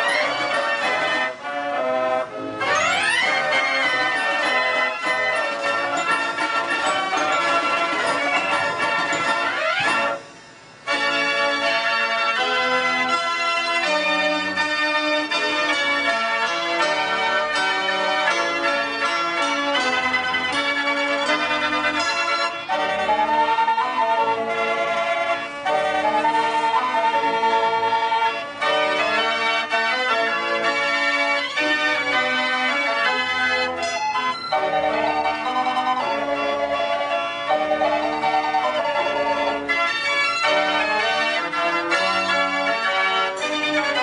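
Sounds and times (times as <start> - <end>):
organ chords: 0.0 - 44.0.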